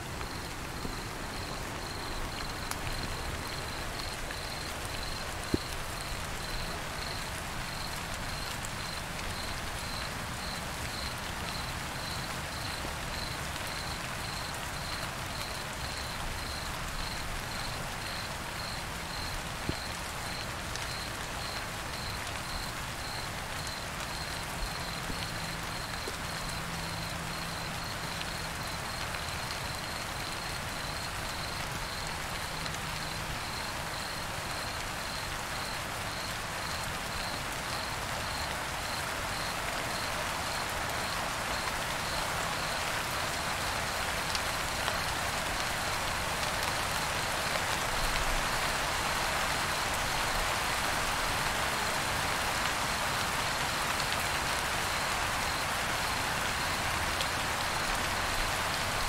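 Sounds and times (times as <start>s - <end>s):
dense steady hiss: 0.0s - 59.0s
cricket chirping: 0.2s - 59.0s.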